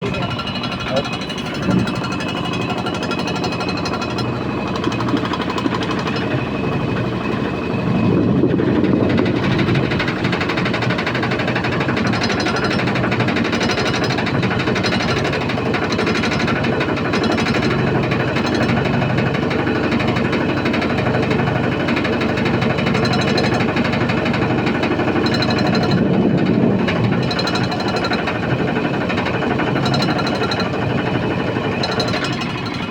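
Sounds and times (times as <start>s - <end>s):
washing machine rattling and knocking: 0.0s - 32.9s.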